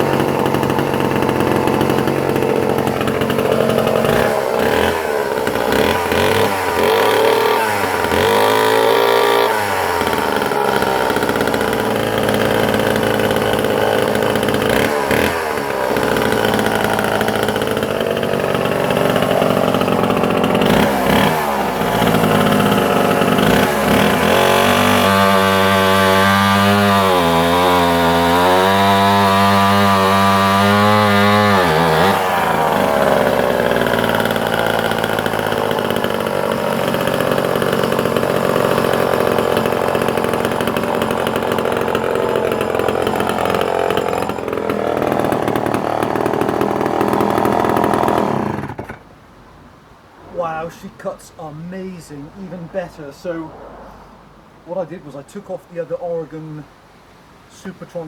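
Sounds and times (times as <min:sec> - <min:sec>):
chainsaw cutting wood: 0:00.0 - 0:49.2.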